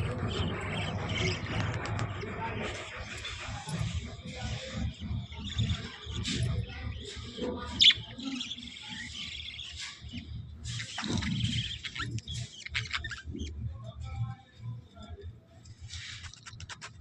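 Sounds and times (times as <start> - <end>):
budgerigars chirping and warbling: 0.0 - 14.7.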